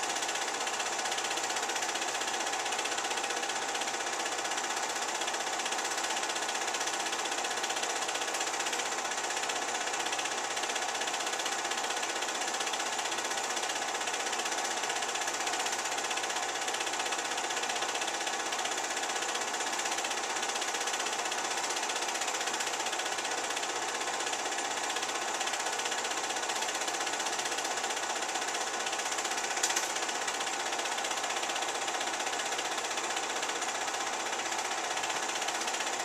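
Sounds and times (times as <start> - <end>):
film projector clatter and whirr: 0.0 - 36.0.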